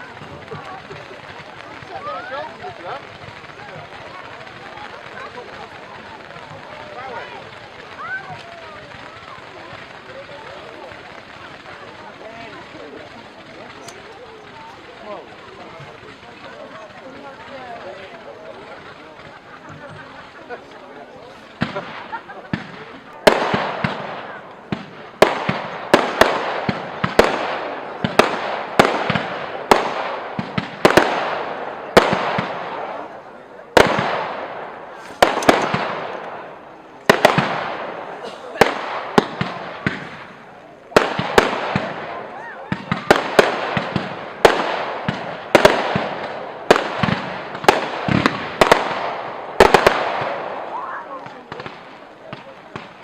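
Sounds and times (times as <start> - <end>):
fireworks bursting with echo: 0.0 - 53.0.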